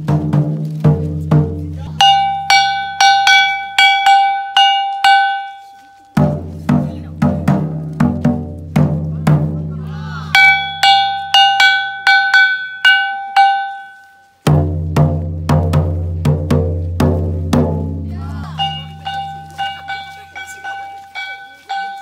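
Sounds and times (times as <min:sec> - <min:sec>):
taiko drum beaten: 0:00.0 - 0:22.0
small gong struck rhythmically: 0:01.8 - 0:09.6, 0:10.3 - 0:15.9, 0:17.1 - 0:22.0.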